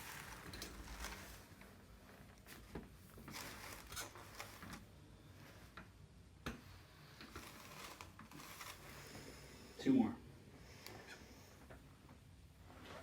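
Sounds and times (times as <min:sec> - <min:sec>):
faint rustling of clothing: 0:00.0 - 0:13.0.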